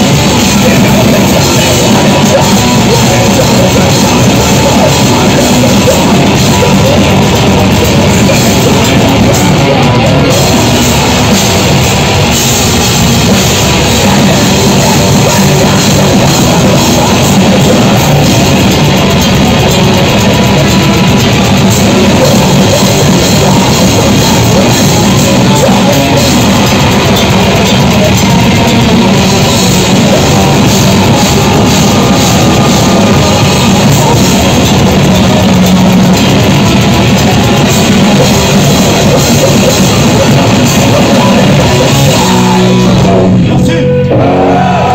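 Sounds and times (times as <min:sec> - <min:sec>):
distorted electric guitar: 0:00.0 - 0:44.9
drum kit: 0:00.0 - 0:44.9
harsh screamed vocals: 0:00.0 - 0:44.9.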